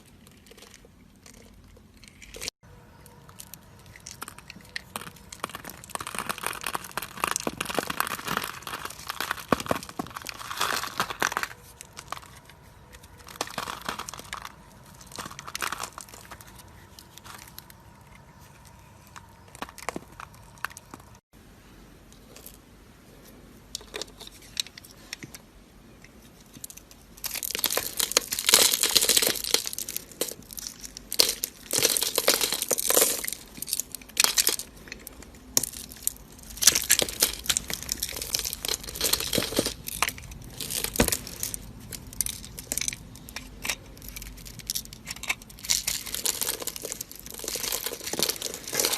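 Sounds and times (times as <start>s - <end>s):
knife carving dry soap: 0.0s - 21.3s, 25.9s - 48.9s.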